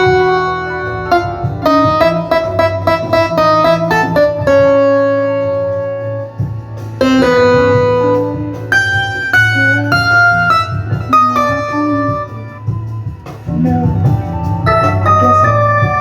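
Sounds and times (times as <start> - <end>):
keyboard music: 0.0 - 16.0.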